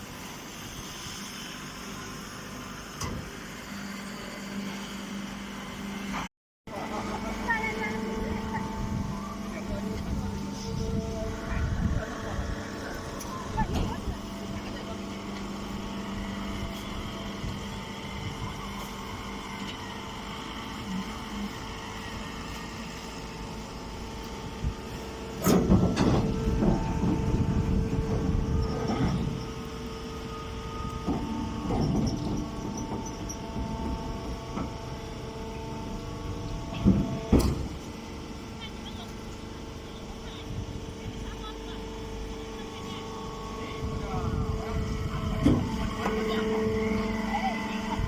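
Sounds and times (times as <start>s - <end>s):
baler machine running: 0.0s - 48.0s
low hum: 6.7s - 48.0s.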